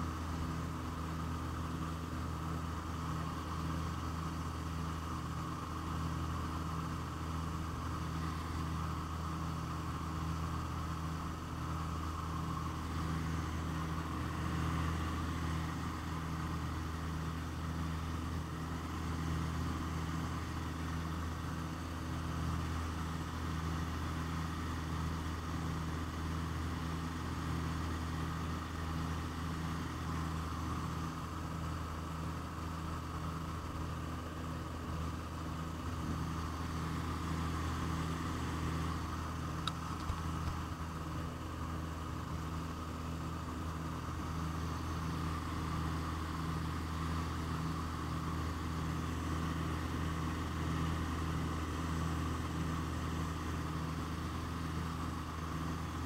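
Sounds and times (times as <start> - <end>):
propeller aircraft engines droning: 0.0 - 56.0.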